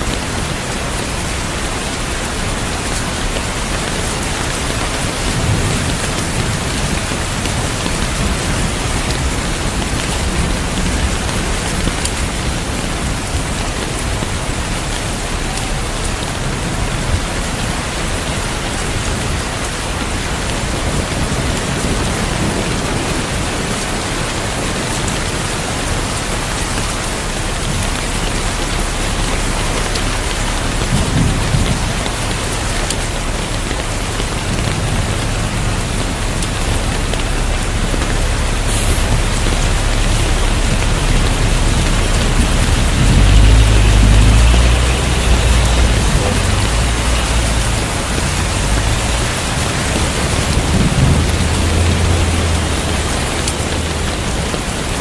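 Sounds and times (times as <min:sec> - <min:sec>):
heavy rain hissing: 0:00.0 - 0:55.0
thunder rumbling: 0:00.0 - 0:55.0.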